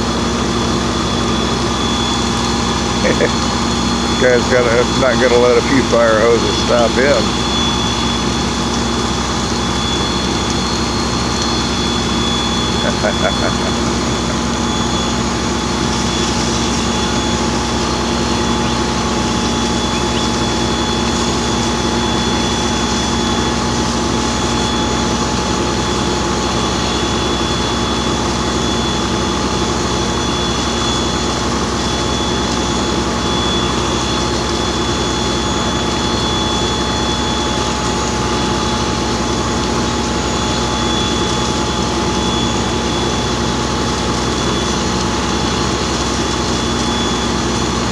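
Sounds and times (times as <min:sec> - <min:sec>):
fire engine pump drone: 0:00.0 - 0:47.9
steady high whine: 0:00.0 - 0:47.9.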